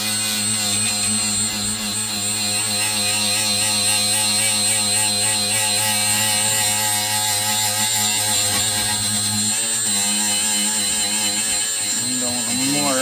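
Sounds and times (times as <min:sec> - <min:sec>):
die grinder high whine: 0:00.0 - 0:13.0.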